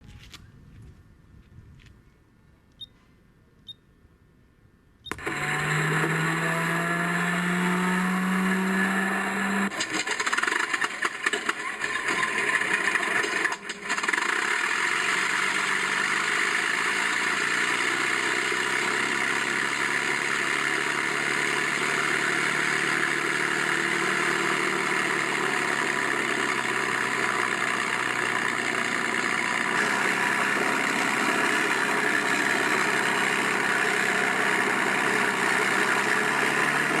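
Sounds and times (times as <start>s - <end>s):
simulated aircraft engine: 5.0s - 37.0s
starter whine rising: 5.0s - 37.0s.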